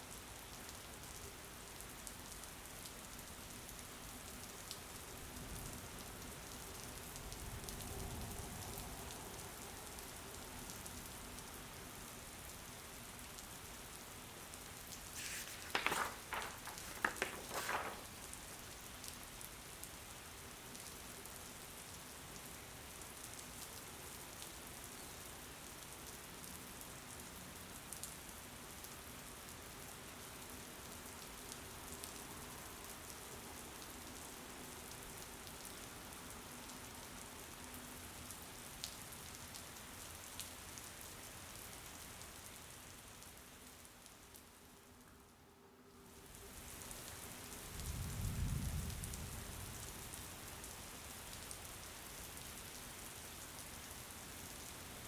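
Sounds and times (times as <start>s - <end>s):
rain splashes: 0.0s - 45.1s, 46.0s - 55.0s
rain pattering: 0.0s - 45.3s, 46.2s - 55.0s.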